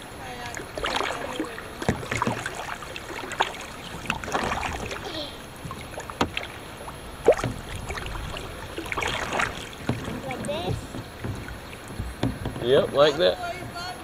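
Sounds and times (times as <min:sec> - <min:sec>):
paddle splashing water: 0:00.0 - 0:14.0
paddle knocking on kayak: 0:00.3 - 0:14.0.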